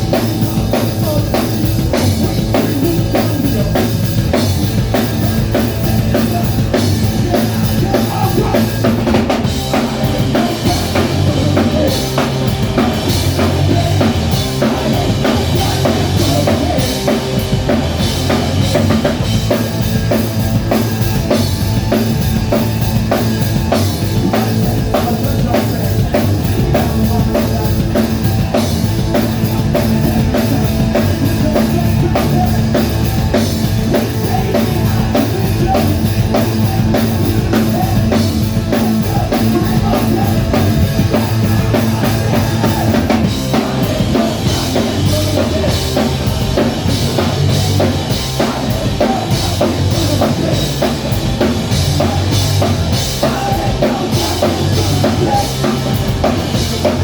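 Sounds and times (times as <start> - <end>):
drum kit kick and snare: 0.0 - 57.0
live rock band playing: 0.0 - 57.0.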